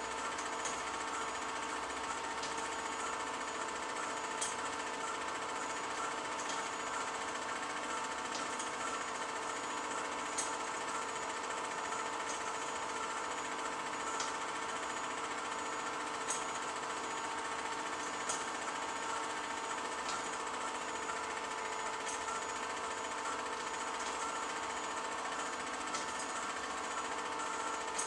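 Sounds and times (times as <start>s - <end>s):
film projector clattering: 0.0s - 28.0s
projector hum: 0.0s - 28.0s.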